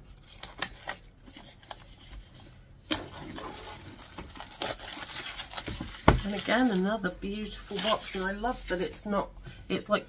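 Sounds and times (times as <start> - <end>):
paper and wrapping rustling: 0.0 - 10.0.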